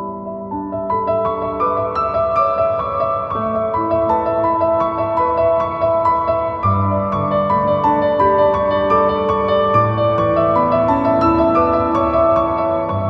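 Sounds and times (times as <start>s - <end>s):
soft piano melody: 0.0s - 13.0s.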